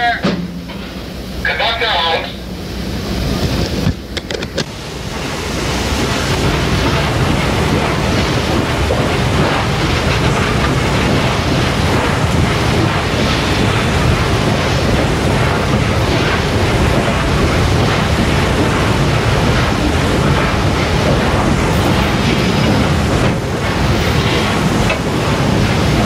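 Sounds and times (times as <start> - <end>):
steam train rushing roar: 0.0 - 26.0.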